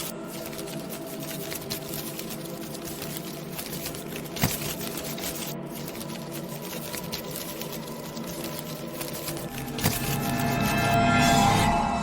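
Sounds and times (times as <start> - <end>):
dense crackle: 0.0 - 11.5.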